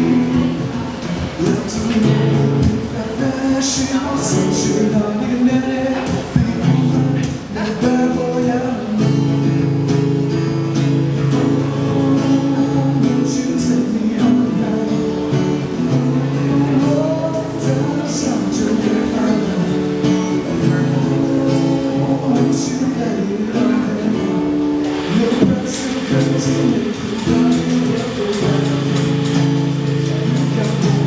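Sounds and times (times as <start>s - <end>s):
acoustic guitar strumming chords: 0.0s - 31.0s
man singing: 0.0s - 31.0s.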